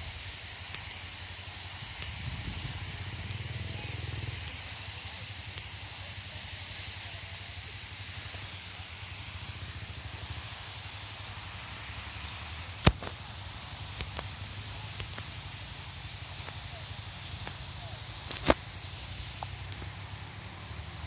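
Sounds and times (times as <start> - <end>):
waterfall rushing hiss: 0.0 - 21.0.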